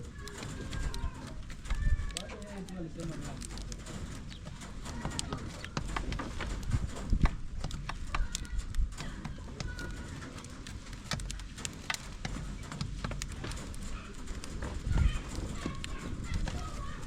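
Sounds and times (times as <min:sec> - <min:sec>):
chickens pecking at feed: 0:00.0 - 0:17.0.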